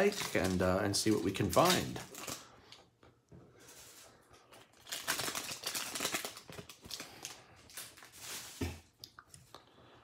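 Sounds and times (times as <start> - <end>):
foil wrapper crinkling: 0.0 - 2.8, 3.6 - 9.0.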